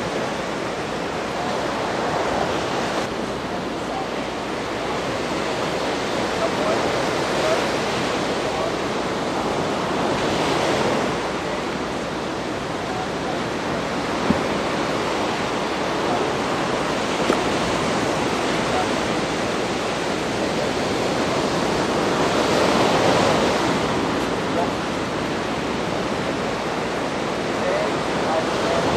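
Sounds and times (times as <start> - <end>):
surf breaking on shore: 0.0 - 28.9.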